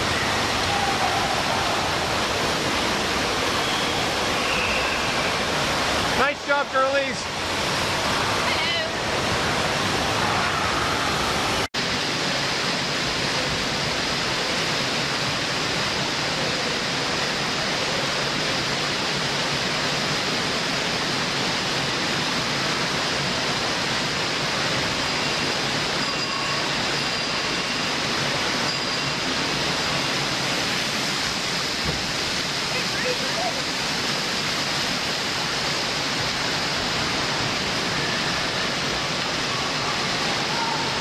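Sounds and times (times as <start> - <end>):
water rushing down a slide: 0.0 - 41.0.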